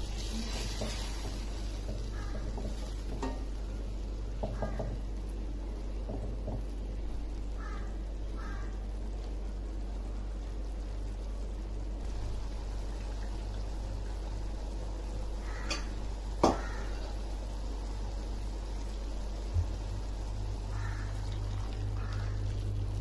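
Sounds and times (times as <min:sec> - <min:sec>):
gravy simmering and bubbling: 0:00.0 - 0:23.0.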